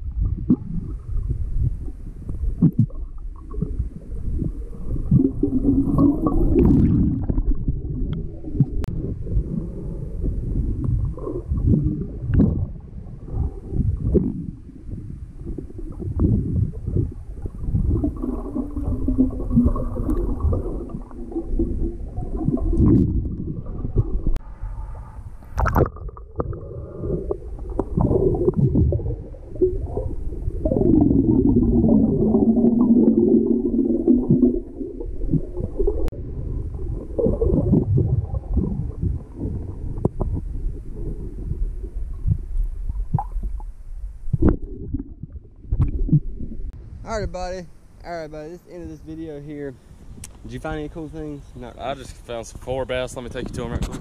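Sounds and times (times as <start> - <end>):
exhaled bubbles from snorkel: 0.0 - 46.8
muffled underwater rumbling and gurgling: 0.0 - 54.0.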